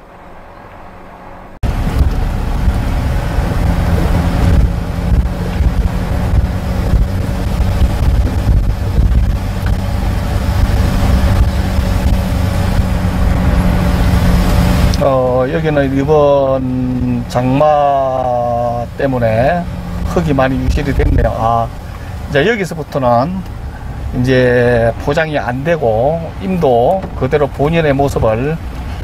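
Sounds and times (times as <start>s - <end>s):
road and tyre rumble: 0.0s - 29.0s
vehicle engine drone: 0.0s - 29.0s.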